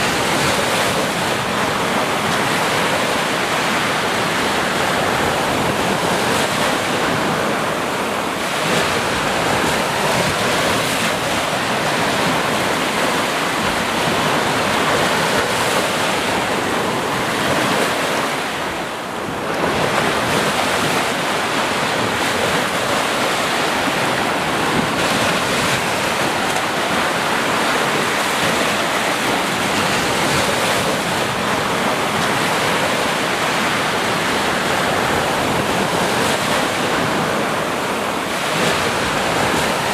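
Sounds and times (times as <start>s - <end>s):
sea surf washing ashore: 0.0s - 39.9s.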